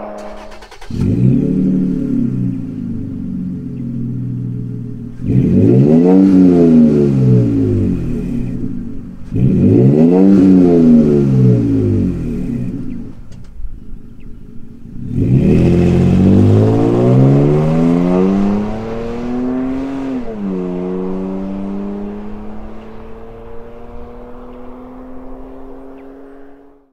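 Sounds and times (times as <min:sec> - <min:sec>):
truck engine accelerating: 0:00.0 - 0:26.9.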